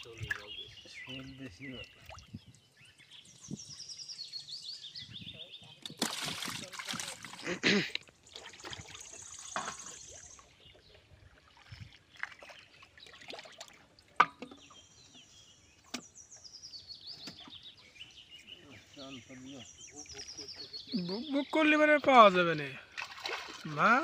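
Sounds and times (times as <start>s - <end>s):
water splashing and trickling: 0.0s - 4.3s, 5.7s - 24.0s.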